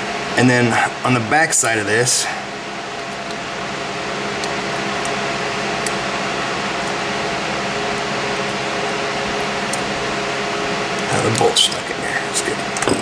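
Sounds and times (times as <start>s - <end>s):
fan humming and hissing: 0.0s - 13.0s.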